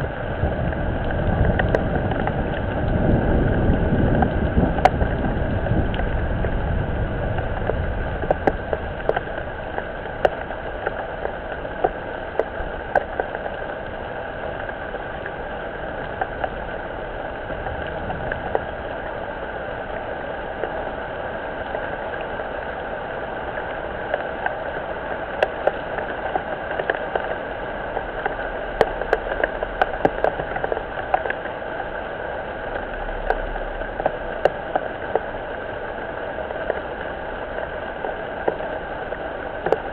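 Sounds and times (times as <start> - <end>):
sharp raindrop strikes: 0.0 - 19.3, 23.6 - 39.9
steady rain falling: 0.0 - 39.9.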